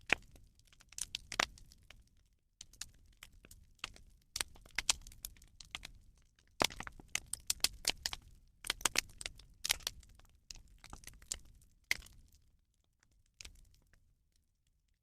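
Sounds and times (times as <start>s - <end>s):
bonfire crackling and popping: 0.0s - 12.5s, 13.4s - 14.0s.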